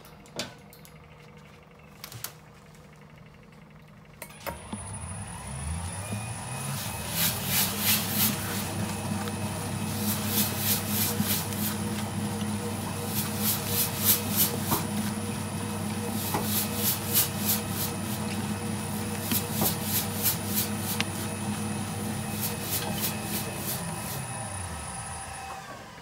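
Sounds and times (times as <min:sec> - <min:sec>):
mixer motor humming: 0:02.8 - 0:26.0.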